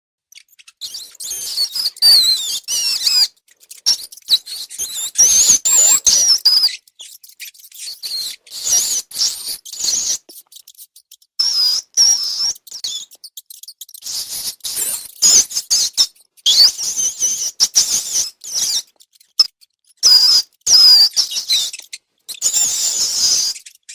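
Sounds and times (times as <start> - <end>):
rats squeaking: 0.3 - 23.9.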